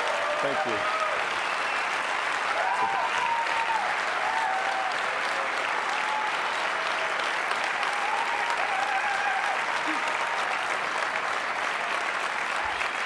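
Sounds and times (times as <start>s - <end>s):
audience applauding: 0.0s - 13.0s
audience cheering: 0.0s - 13.0s.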